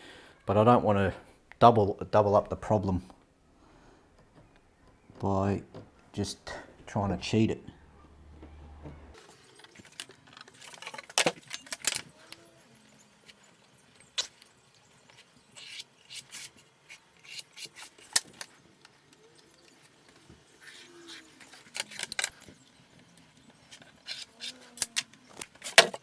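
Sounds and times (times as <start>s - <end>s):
tools and wooden panels handled: 4.0s - 26.0s.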